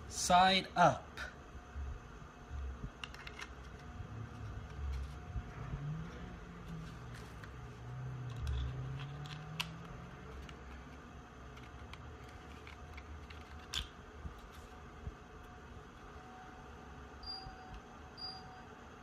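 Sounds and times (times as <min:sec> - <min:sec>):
heater fan humming: 0:00.0 - 0:19.0.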